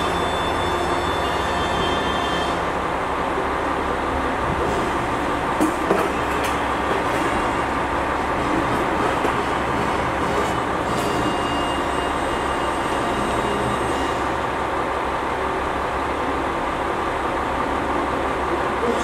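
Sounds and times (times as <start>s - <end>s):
trains humming and hissing: 0.0s - 19.0s.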